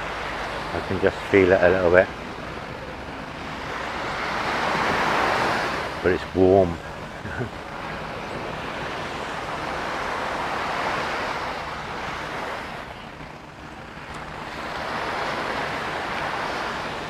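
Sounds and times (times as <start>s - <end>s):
waves washing onto sand: 0.0s - 17.0s.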